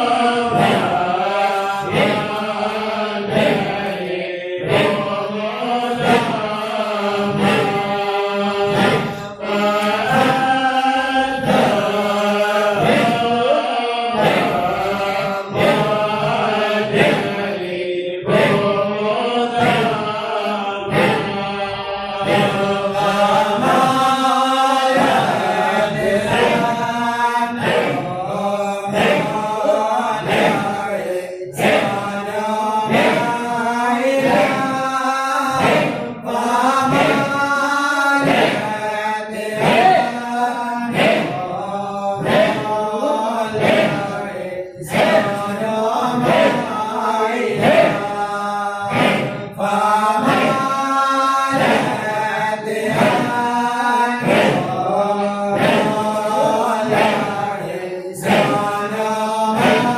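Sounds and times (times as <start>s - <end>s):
person chanting: 0.0s - 59.9s.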